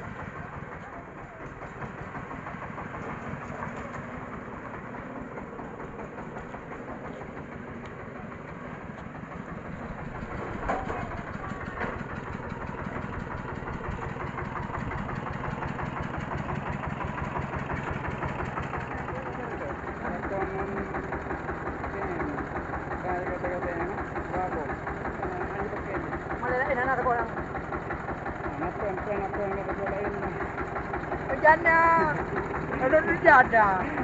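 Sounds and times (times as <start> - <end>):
diesel engine chugging: 0.0 - 34.0.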